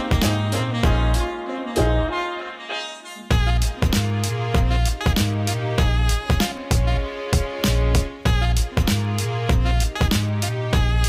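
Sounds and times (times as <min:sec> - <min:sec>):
drum beat: 0:00.0 - 0:02.0, 0:03.3 - 0:11.0
bass line: 0:00.0 - 0:02.2, 0:03.3 - 0:11.0.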